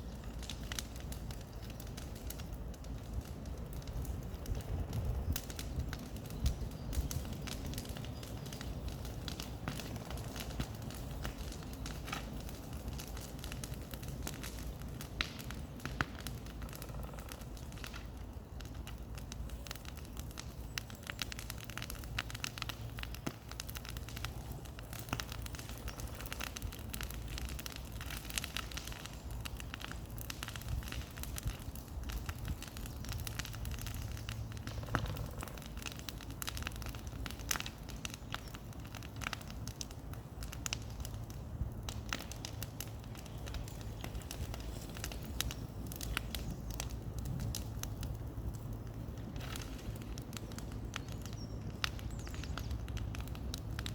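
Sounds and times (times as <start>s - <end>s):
bonfire crackling and popping: 0.0s - 53.9s.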